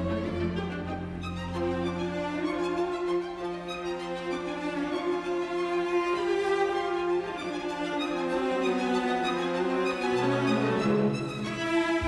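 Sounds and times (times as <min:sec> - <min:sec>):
bowed strings with violin: 0:00.0 - 0:12.0.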